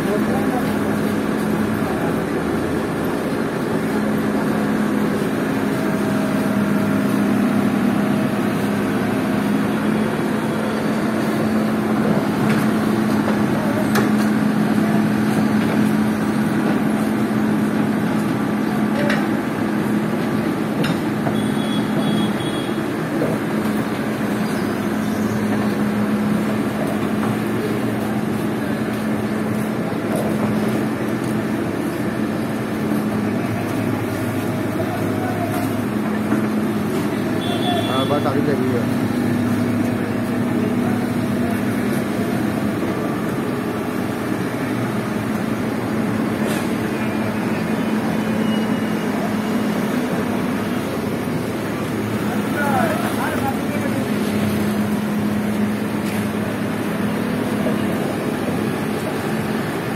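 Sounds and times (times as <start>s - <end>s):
diesel engine running: 0.0s - 59.9s
street noise: 0.0s - 59.9s
voices: 0.0s - 59.9s.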